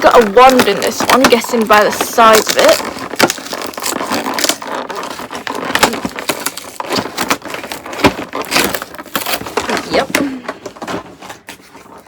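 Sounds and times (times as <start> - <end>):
cardboard tearing: 0.0 - 12.0
crackling and rustling: 0.0 - 12.0.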